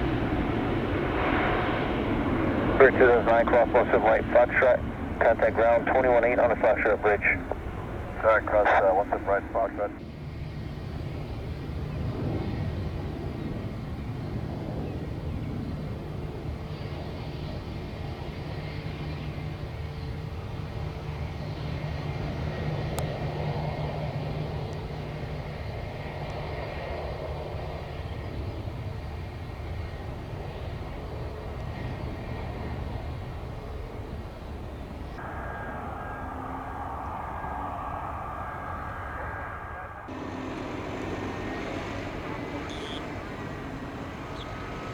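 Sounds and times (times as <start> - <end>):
distant jet engines rumbling: 0.0 - 44.9.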